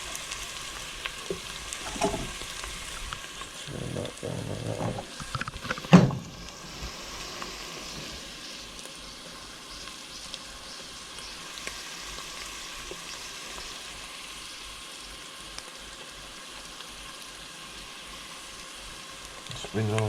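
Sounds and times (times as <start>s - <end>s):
onions sizzling in a pan: 0.0s - 20.0s.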